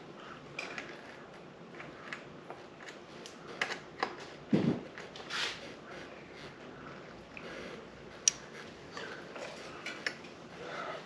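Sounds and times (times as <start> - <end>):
air-conditioner hiss: 0.0 - 11.0.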